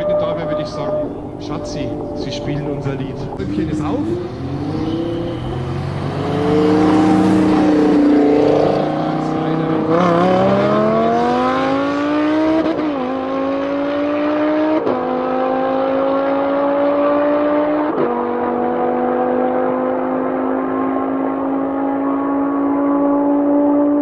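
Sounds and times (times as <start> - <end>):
car engine accelerating with upshifts: 0.0 - 24.0.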